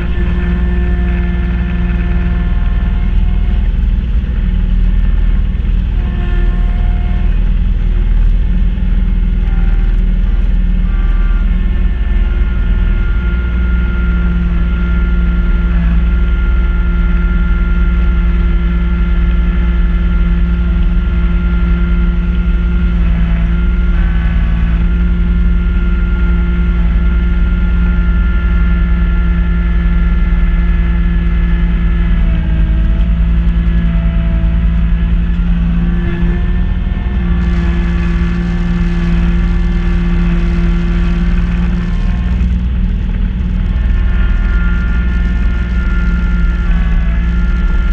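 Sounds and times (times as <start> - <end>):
snowblower running: 0.0 - 47.9
tractor diesel engine running: 0.0 - 47.9.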